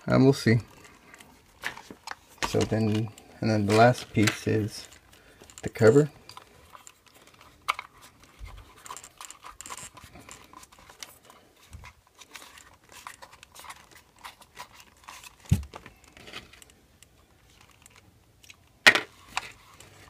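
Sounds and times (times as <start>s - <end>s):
plastic parts and screws clicking: 0.7s - 20.0s.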